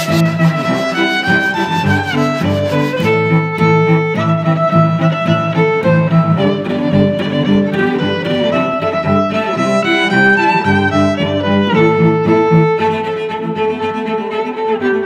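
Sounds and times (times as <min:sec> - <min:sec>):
violin and cello melody: 0:00.0 - 0:15.0.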